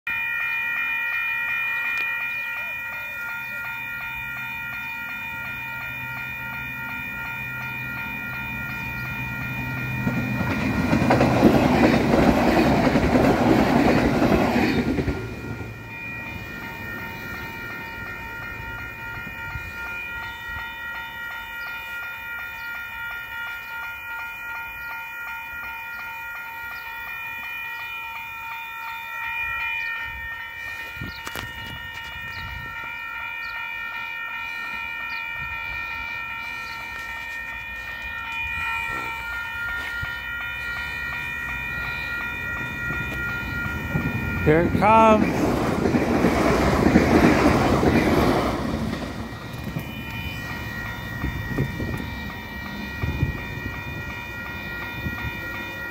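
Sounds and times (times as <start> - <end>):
level crossing alarm bells ringing: 0.0 - 55.9
electric train rolling over crossing: 0.1 - 55.9.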